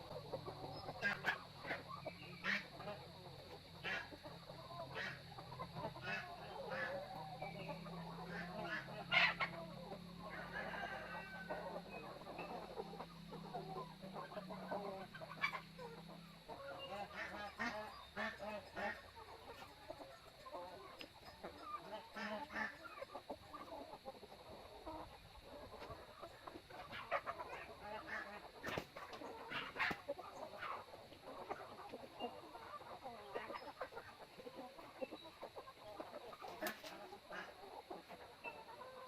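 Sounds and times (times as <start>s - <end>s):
chickens and ducks clucking: 0.0s - 39.0s.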